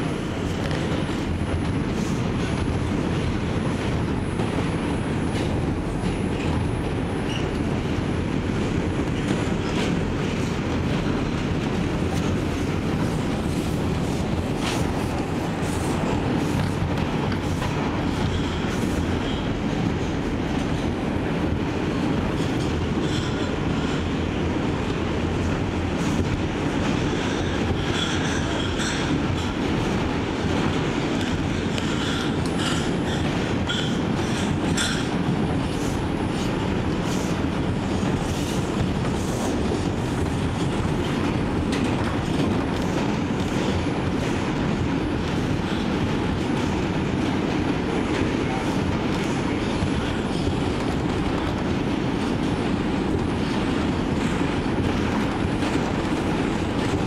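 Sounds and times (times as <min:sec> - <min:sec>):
subway wheels rumbling on rail: 0:00.0 - 0:57.0.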